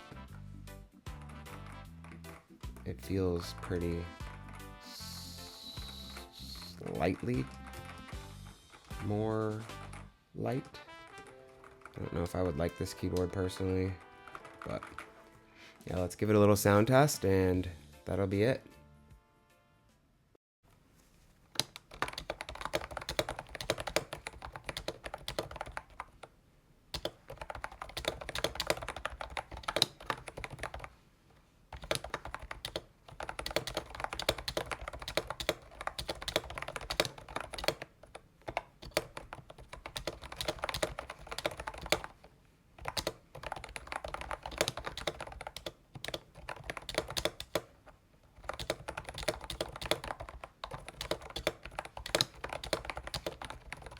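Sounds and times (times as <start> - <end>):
fast typing on keyboard: 1.1 - 6.2, 6.8 - 10.1, 11.0 - 15.3, 21.6 - 26.3, 27.0 - 31.0, 31.7 - 53.9.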